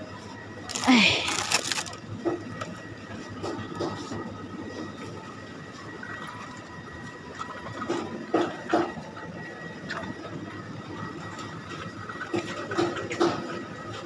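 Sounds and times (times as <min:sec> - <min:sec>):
chiller cabinets humming: 0:00.0 - 0:14.0.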